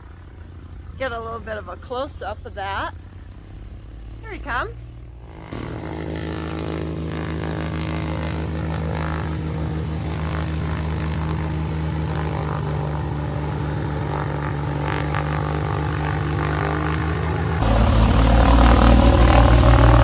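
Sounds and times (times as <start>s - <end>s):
propeller airplane engine running: 0.0s - 20.0s.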